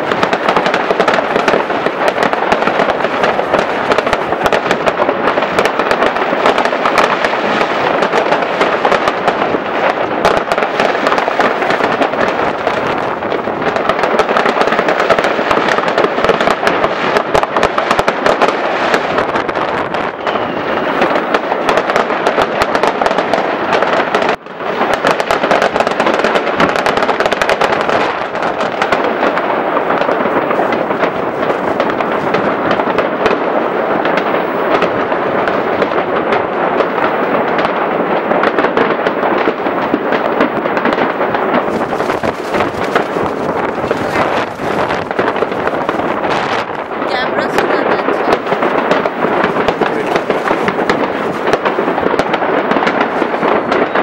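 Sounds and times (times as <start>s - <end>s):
fireworks and firecrackers barrage: 0.0s - 54.0s.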